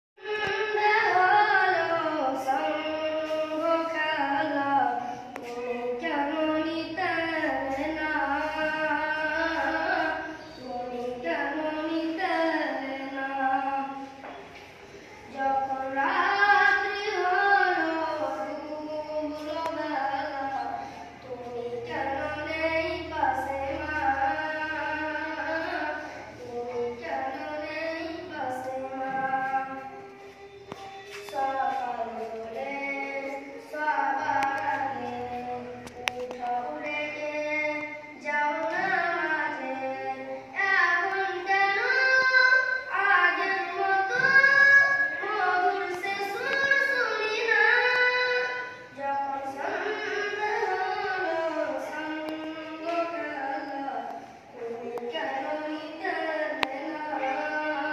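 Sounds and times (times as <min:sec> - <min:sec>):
boys chanting in unison: 0:00.2 - 0:57.9.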